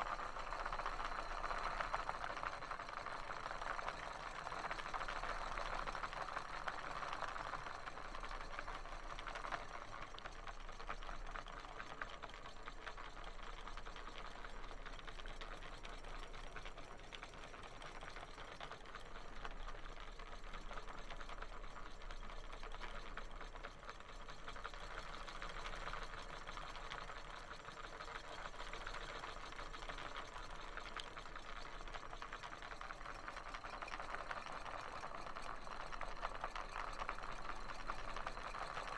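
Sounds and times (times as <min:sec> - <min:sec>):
model engine mechanical clatter: 0:00.0 - 0:38.9.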